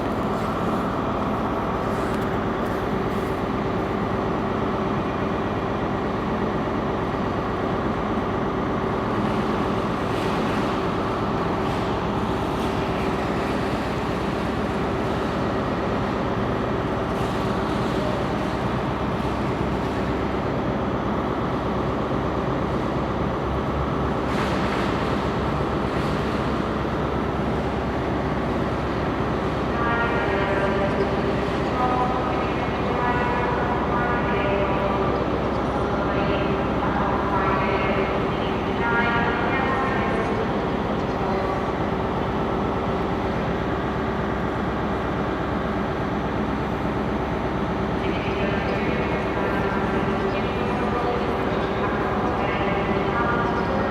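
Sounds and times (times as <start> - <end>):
diesel train engines droning: 0.0 - 53.9.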